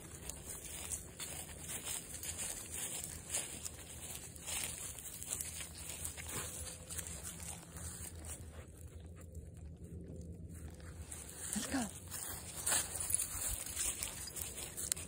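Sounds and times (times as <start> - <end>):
footsteps through dry leaves: 0.0 - 9.0, 10.5 - 15.0
dog's paws rustling grass: 0.0 - 15.0.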